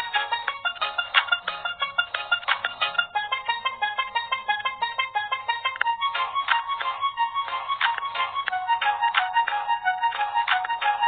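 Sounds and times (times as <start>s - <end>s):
plucked-string melody: 0.0s - 11.0s.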